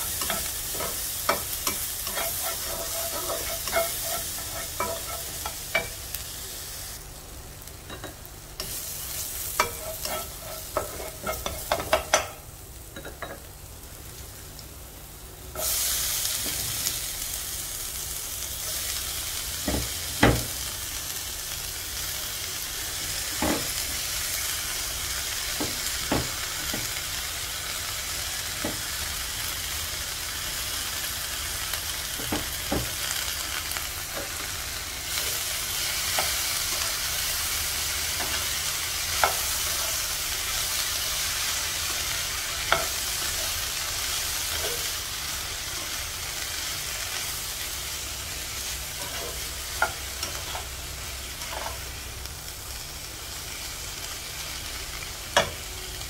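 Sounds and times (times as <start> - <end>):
food sizzling in frying pan: 0.0 - 56.0.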